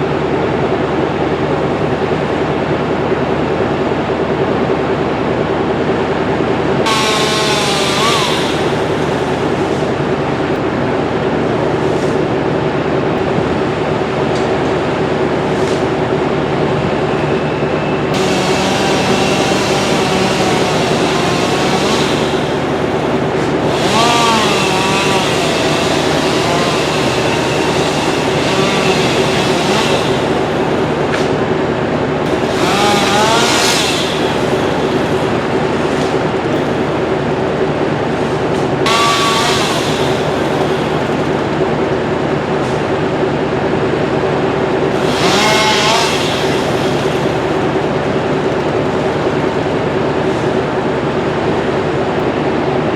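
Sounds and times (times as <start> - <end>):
machinery droning: 0.0 - 52.9.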